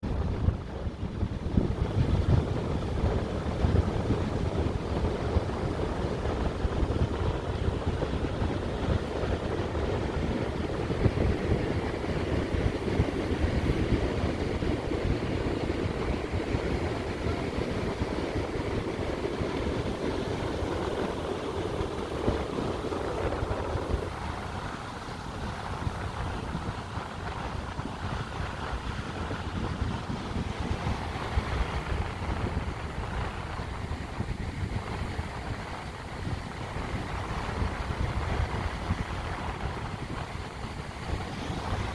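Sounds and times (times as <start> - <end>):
sea surf rushing: 0.0 - 41.9
wind buffeting microphone: 0.0 - 41.9.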